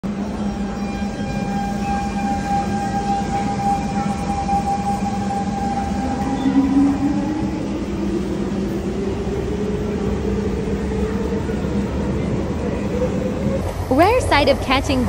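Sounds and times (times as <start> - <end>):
metro train inverter whine: 0.0 - 15.0.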